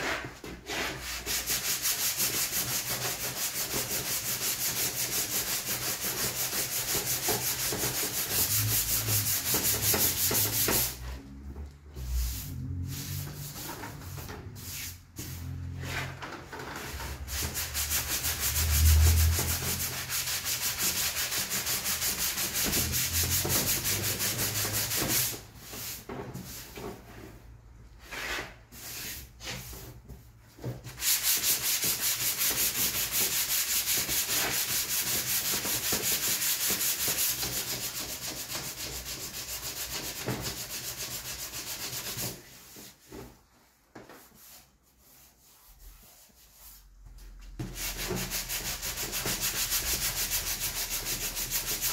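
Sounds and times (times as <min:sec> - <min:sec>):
sandpaper rubbing on plastic: 0:00.0 - 0:11.0, 0:12.0 - 0:26.0, 0:30.9 - 0:43.3, 0:47.6 - 0:51.9.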